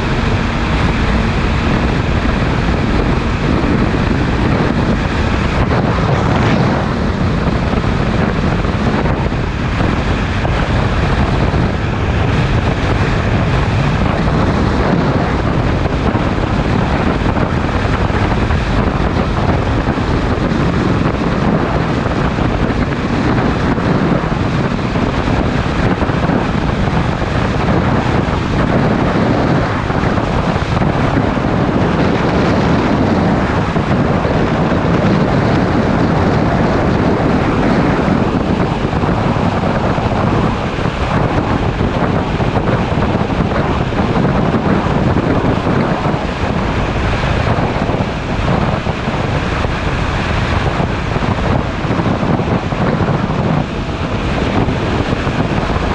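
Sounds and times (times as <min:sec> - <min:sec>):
motorcycle engine: 0:00.0 - 0:55.9
wind rushing over microphone: 0:00.0 - 0:55.9.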